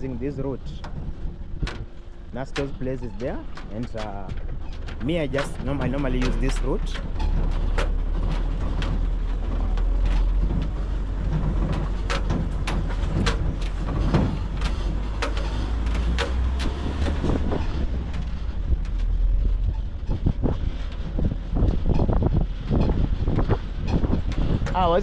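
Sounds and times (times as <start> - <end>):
knocks and rattles: 0.0 - 25.0
vehicle low rumble: 0.0 - 25.0.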